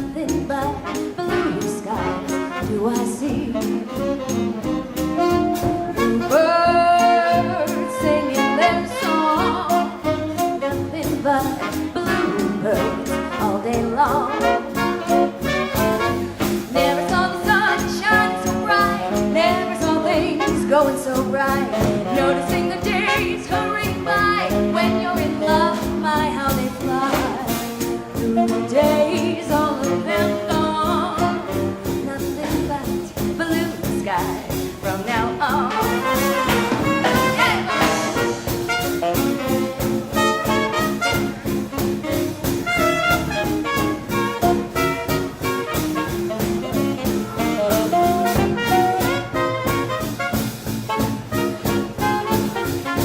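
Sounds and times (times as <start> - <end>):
swing band playing: 0.0 - 53.0.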